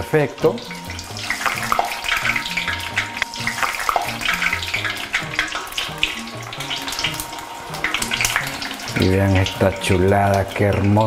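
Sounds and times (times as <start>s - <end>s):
hot oil bubbling and crackling: 0.0s - 11.0s.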